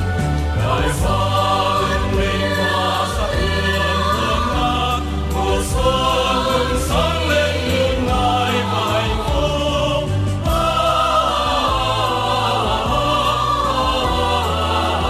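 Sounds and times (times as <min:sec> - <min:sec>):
mixed choir singing: 0:00.0 - 0:15.0
musical accompaniment: 0:00.0 - 0:15.0.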